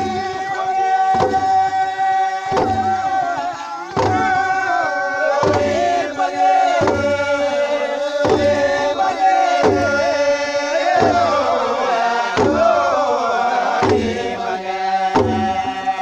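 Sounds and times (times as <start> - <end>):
drum beat: 0.0 - 10.2, 10.8 - 16.0
group of voices chanting: 0.0 - 16.0.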